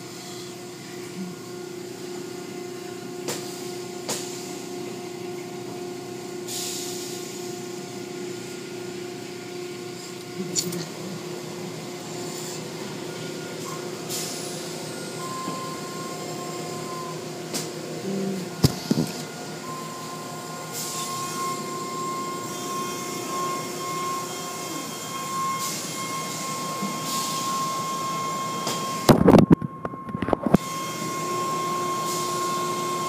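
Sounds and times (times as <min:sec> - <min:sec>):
car wash machine hum: 0:00.0 - 0:29.1, 0:30.6 - 0:33.0.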